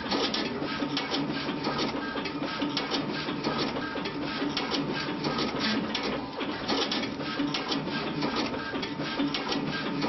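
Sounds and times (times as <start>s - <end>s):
label machine whirring: 0.0s - 10.0s.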